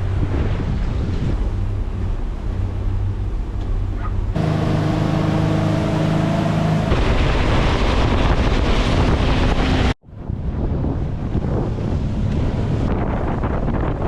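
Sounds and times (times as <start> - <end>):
wind buffeting microphone: 0.0 - 4.4, 6.8 - 14.0
speedboat engine running: 0.0 - 14.0
water rushing past hull: 0.0 - 14.0.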